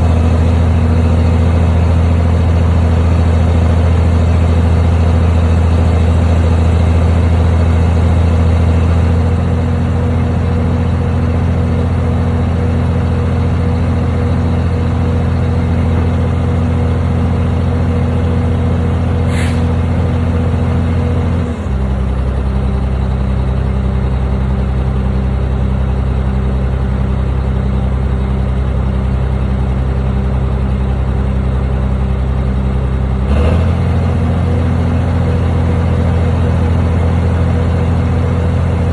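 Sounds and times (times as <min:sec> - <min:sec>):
heavy machine engine humming: 0:00.0 - 0:38.9.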